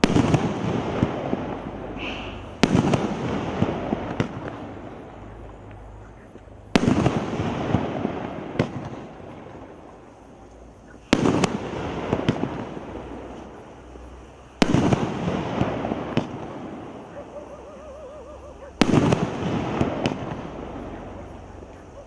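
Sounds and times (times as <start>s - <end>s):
small firework pops: 0.0s - 13.8s, 14.6s - 17.1s, 18.8s - 22.0s
firework booms: 0.0s - 22.0s.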